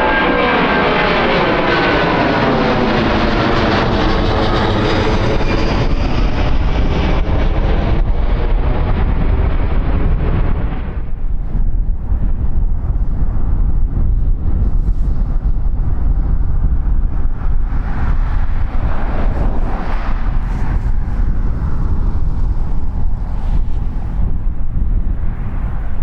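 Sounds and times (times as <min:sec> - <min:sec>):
jet airliner passing: 0:00.0 - 0:26.0
wind on microphone: 0:00.0 - 0:26.0.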